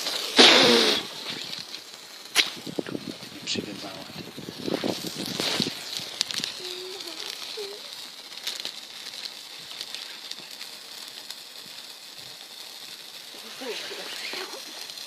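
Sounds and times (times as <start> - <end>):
sparkler fizzing and crackling: 0.0 - 15.0.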